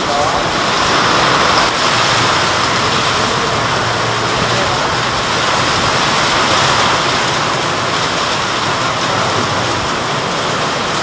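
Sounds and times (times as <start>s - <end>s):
heavy rain hissing: 0.0s - 11.0s
water running off roof edge: 0.0s - 11.0s.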